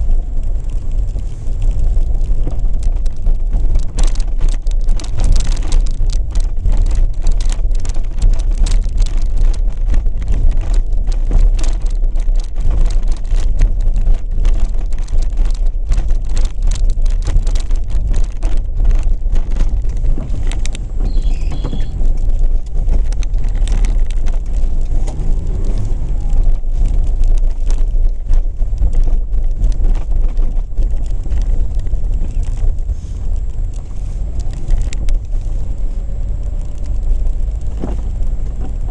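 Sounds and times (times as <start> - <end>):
car engine and tyres rumbling: 0.0 - 38.9
tyres crackling on packed snow: 0.0 - 38.9.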